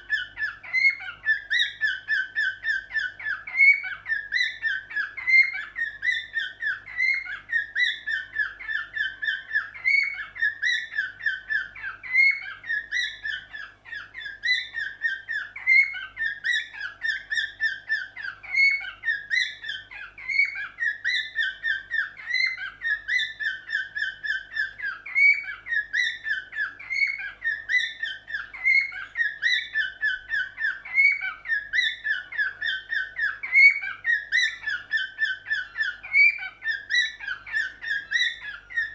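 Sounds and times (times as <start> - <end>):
cockatiel whistling song: 0.0 - 38.9.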